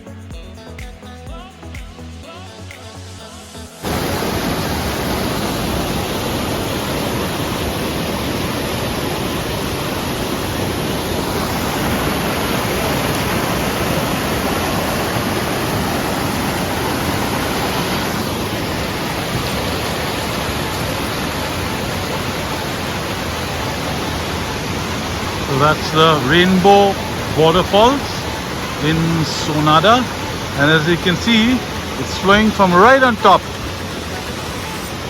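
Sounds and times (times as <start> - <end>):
waterfall rushing: 3.8 - 35.0.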